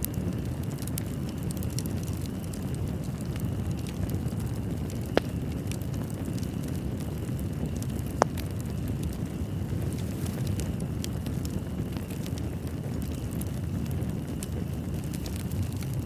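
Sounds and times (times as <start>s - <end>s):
fire crackles and pops: 0.0s - 16.0s
fire rumbling in a fireplace: 0.0s - 16.0s.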